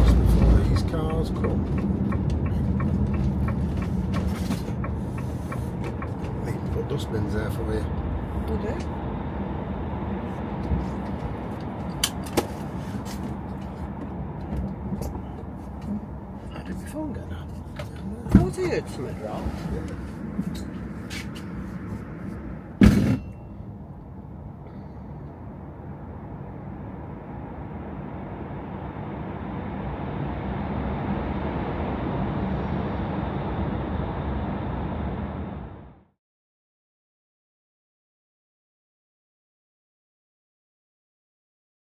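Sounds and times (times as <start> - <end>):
van driving rumble: 0.0 - 36.1.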